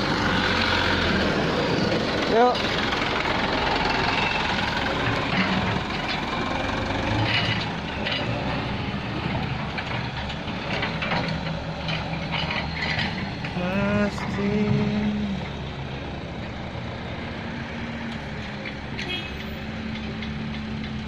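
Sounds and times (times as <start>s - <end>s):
heavy diesel engines running: 0.0s - 21.0s.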